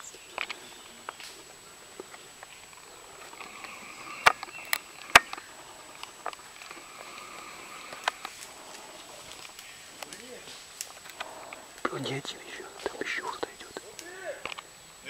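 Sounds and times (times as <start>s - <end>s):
faint clicks: 0.0s - 14.7s.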